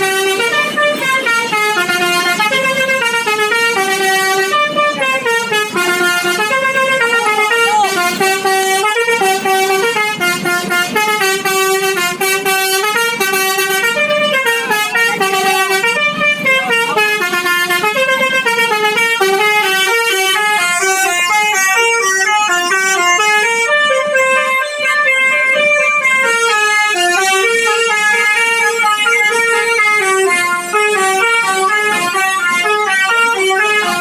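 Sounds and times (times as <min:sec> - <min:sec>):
bus musical horn playing melody: 0:00.0 - 0:34.0.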